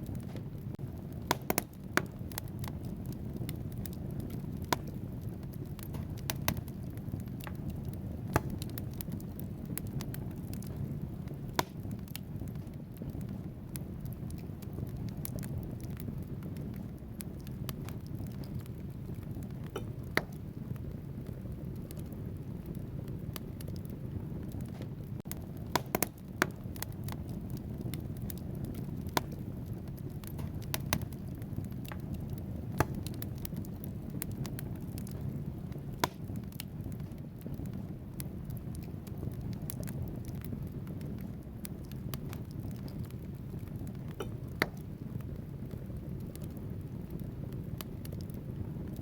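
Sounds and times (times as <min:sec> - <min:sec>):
logs crackling and popping: 0:00.0 - 0:49.0
low rush of flames: 0:00.0 - 0:49.0.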